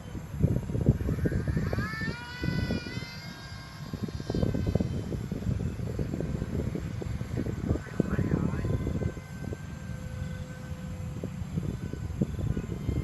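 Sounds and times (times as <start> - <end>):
model plane motor whining: 0.0 - 13.0
wind buffeting microphone: 0.0 - 13.0.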